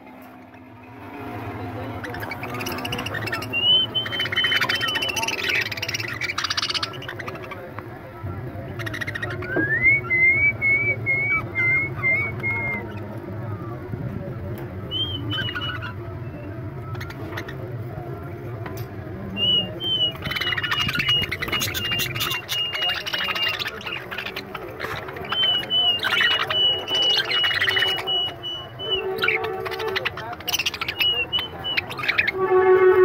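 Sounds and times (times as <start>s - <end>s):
budgerigars chirping and chattering: 1.2s - 13.3s, 14.8s - 32.4s.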